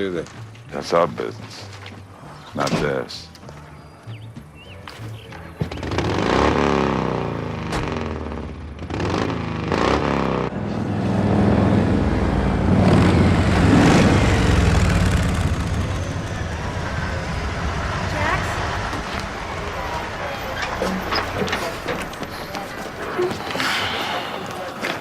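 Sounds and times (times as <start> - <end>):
vehicle engines revving: 4.1 - 25.0.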